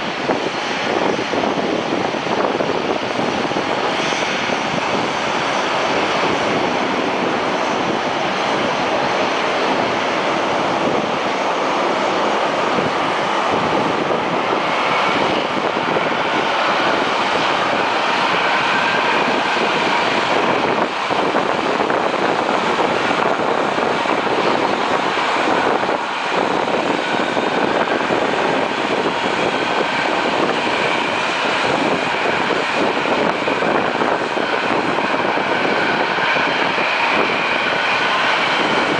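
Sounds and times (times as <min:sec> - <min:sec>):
jet engines at takeoff: 0:00.0 - 0:38.9.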